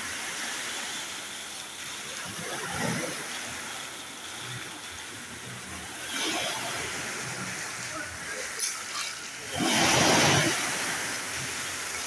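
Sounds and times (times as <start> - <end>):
waves washing over pebble beach: 0.0 - 12.0.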